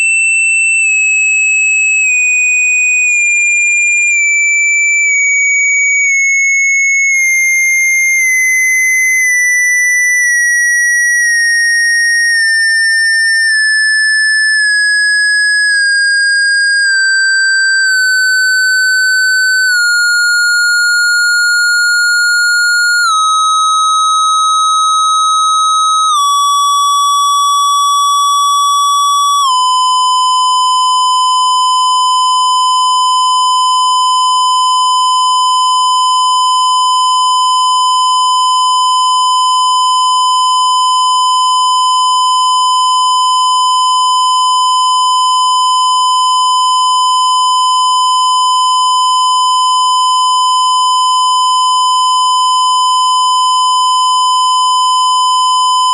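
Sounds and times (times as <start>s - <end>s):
sine test tone: 0.0s - 55.9s.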